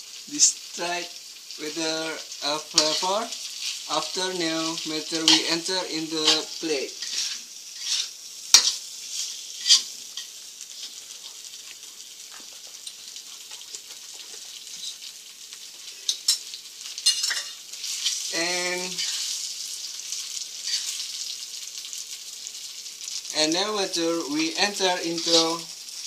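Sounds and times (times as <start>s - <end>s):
rice sizzling in a frying pan: 0.0s - 26.0s.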